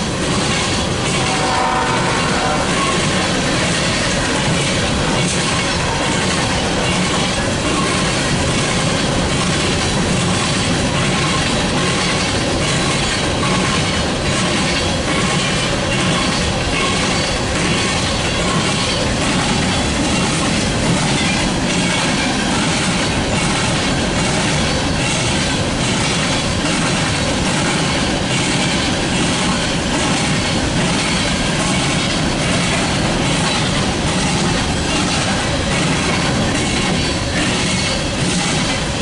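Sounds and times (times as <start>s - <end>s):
freight train rolling past: 0.0s - 39.0s.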